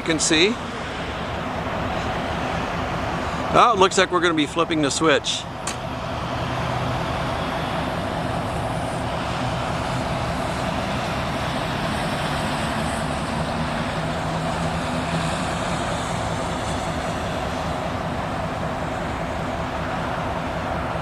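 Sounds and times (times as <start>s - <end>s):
diesel locomotive idling: 0.0s - 21.0s.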